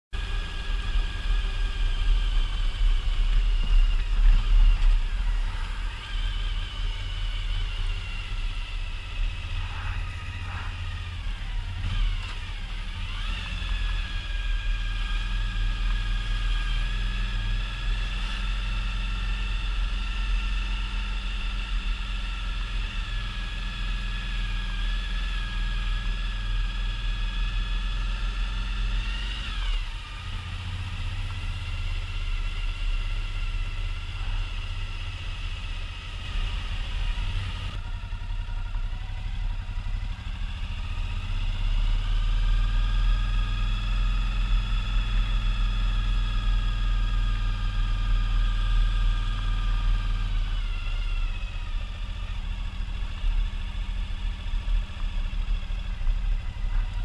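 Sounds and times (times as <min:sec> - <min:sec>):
motorcycle engine running: 0:00.1 - 0:57.0.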